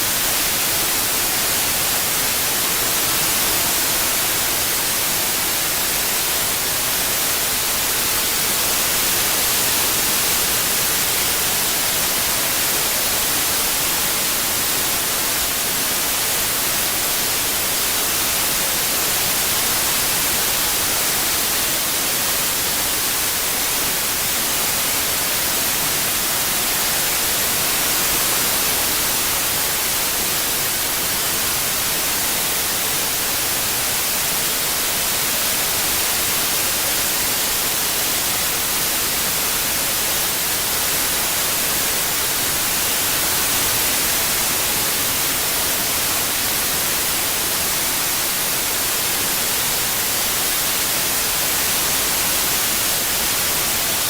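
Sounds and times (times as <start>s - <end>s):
synthetic white noise hiss: 0.0s - 54.0s.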